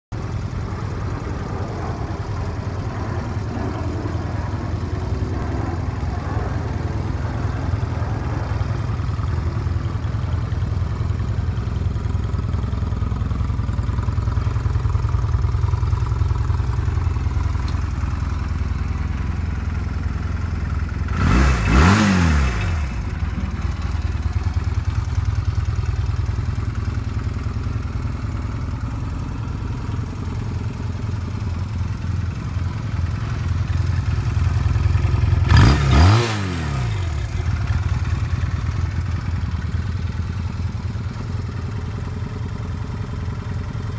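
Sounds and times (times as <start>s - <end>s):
motorcycle engine idling: 0.1s - 36.0s, 36.6s - 43.9s.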